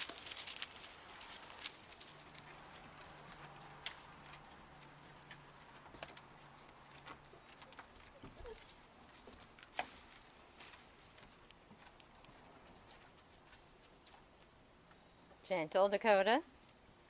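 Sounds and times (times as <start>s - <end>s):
pets' clicks and light taps: 0.0s - 16.8s.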